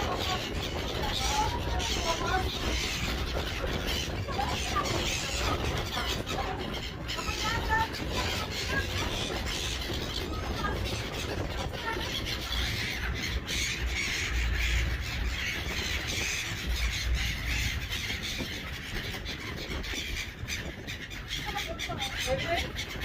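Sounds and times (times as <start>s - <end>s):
seagulls calling and squawking: 0.0s - 23.0s.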